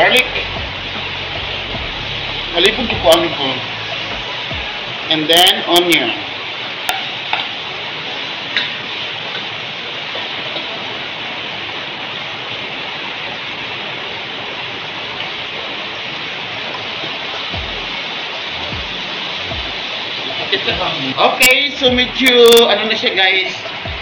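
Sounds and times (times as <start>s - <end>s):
garlic and onion sizzling: 0.0s - 11.8s, 14.8s - 24.0s.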